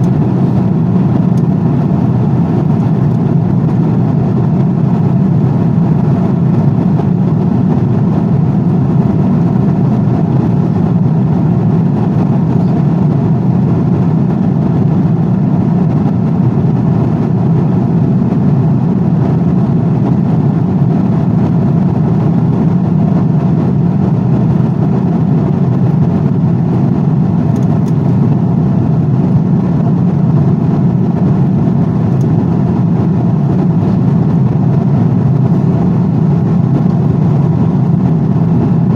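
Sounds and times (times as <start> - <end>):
airplane rumble: 0.0 - 38.9.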